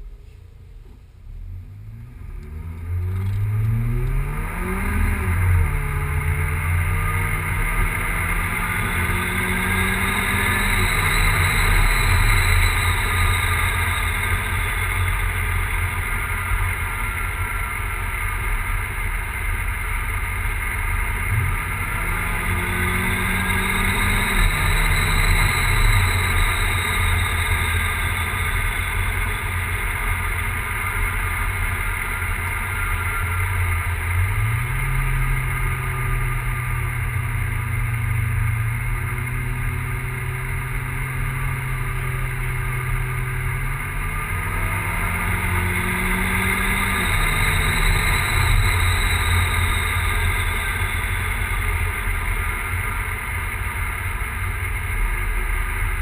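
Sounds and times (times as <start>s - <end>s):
car engine revving: 0.0s - 56.0s
car engine misfiring idle: 5.0s - 56.0s.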